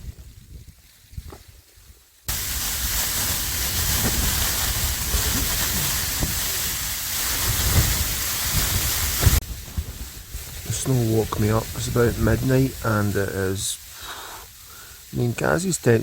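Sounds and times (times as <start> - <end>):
low gusty wind rumble: 0.0 - 1.5, 2.3 - 13.7
snow pelting tent fabric: 0.0 - 16.0.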